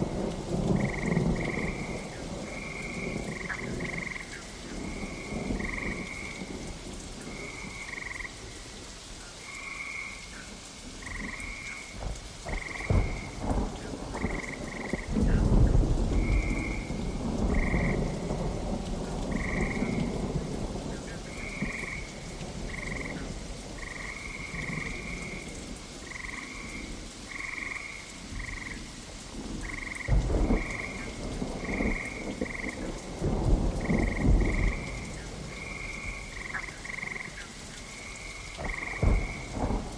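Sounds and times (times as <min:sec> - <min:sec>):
thunder rumbling: 0:00.0 - 0:08.3, 0:11.0 - 0:27.4, 0:28.2 - 0:39.9
frogs croaking: 0:00.0 - 0:39.9
steady rain: 0:00.0 - 0:39.9.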